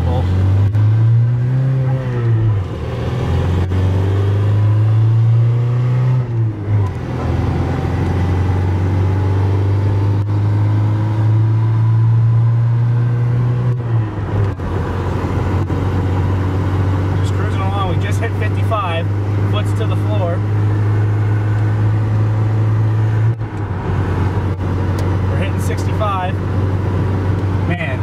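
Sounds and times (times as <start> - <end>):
truck engine revving through gears: 0.0 - 28.0.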